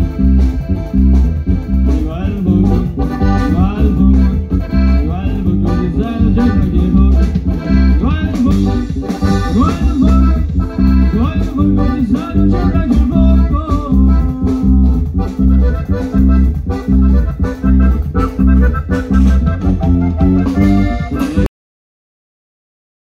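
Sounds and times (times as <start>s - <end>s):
accordion melody: 0.0s - 21.5s
steady bass beat: 0.0s - 21.5s
strummed guitars: 0.0s - 21.5s.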